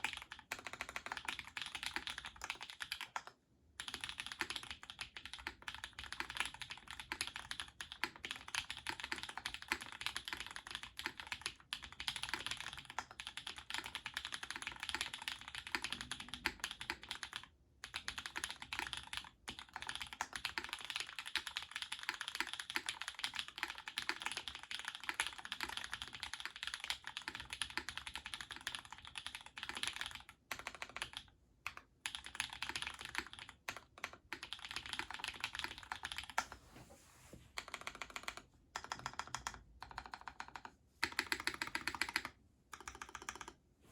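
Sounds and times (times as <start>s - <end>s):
fast mechanical keyboard typing: 0.0s - 36.5s, 37.6s - 43.6s.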